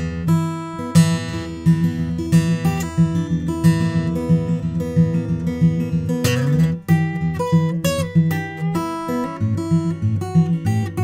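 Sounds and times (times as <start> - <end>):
acoustic guitar picking: 0.0 - 11.0.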